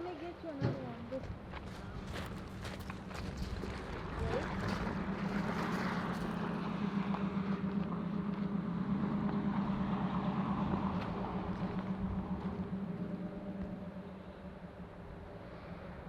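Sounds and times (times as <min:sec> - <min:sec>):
vehicle engine running: 0:01.2 - 0:16.0.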